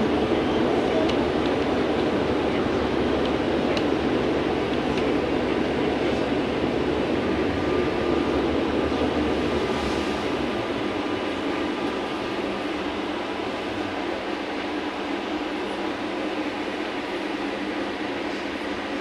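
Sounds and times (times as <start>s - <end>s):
road noise: 0.0s - 19.0s
trolleybus running hum: 0.0s - 19.0s.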